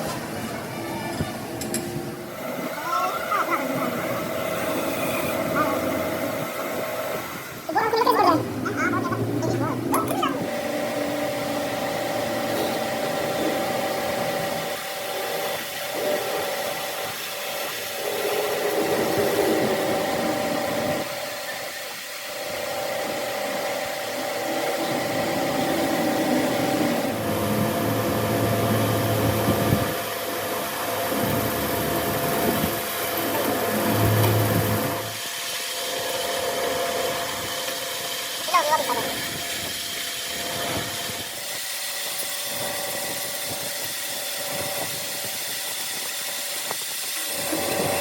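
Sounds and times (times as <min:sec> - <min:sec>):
power tool whining: 0:02.2 - 0:29.8, 0:31.1 - 0:48.0.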